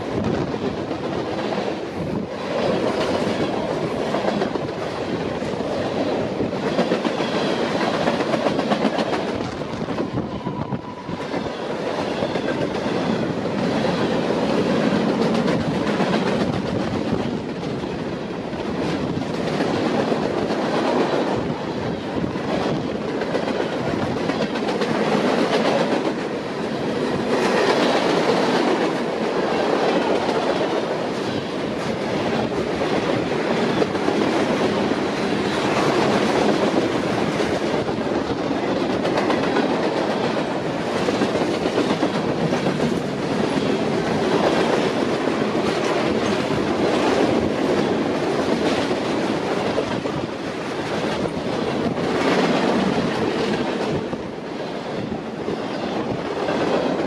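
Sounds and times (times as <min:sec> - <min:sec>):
freight train rumble and rattle: 0:00.0 - 0:57.0
train wheels clicking over rail joints: 0:02.2 - 0:54.6.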